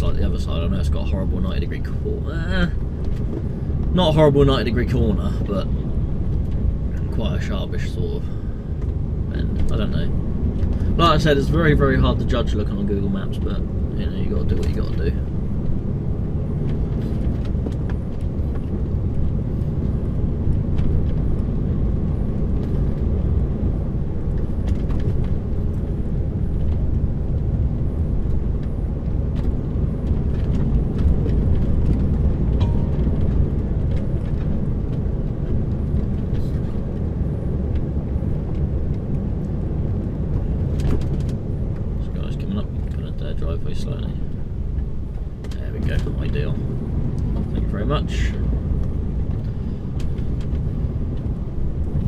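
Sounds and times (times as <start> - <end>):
diesel engine rumble: 0.0 - 52.0.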